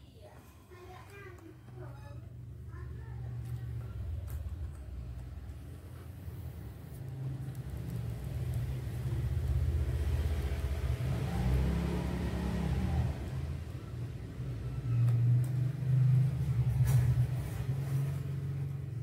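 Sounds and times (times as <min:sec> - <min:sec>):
engine rumbling: 0:01.7 - 0:19.0.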